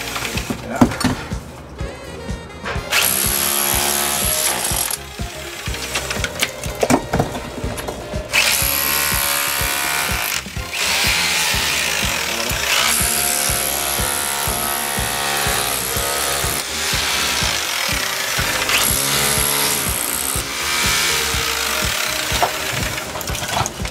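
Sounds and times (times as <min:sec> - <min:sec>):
power drill boring into brick: 0:02.8 - 0:23.9.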